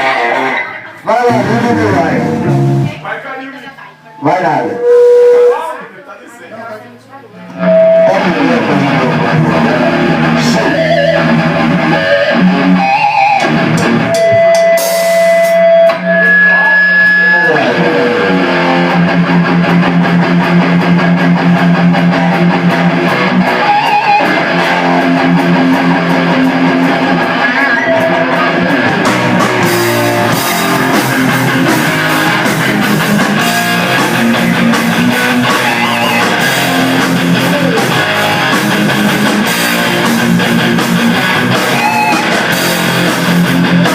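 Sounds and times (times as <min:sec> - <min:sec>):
long held guitar notes: 0:00.0 - 0:03.0, 0:04.4 - 0:05.8, 0:07.4 - 0:43.9
rock band playing: 0:00.0 - 0:05.7, 0:07.4 - 0:43.9.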